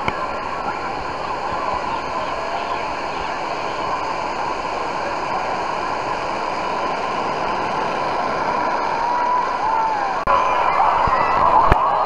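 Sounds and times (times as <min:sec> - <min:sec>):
wave breaking in shallows: 0:00.0 - 0:12.0.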